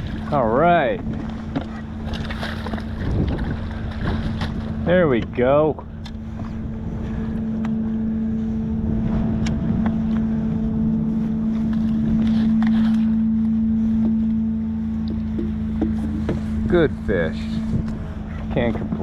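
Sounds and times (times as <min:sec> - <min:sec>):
wind noise on microphone: 0:00.0 - 0:13.0, 0:15.9 - 0:19.0.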